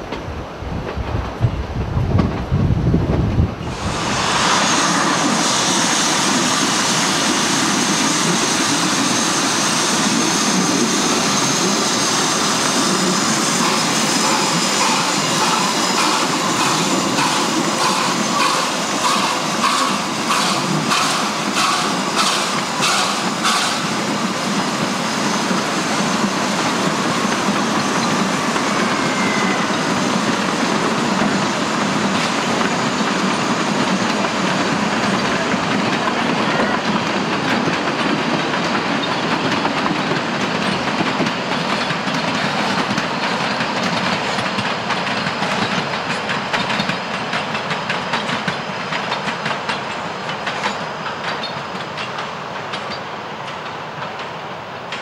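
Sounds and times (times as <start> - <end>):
steam train running: 0.0 - 55.0.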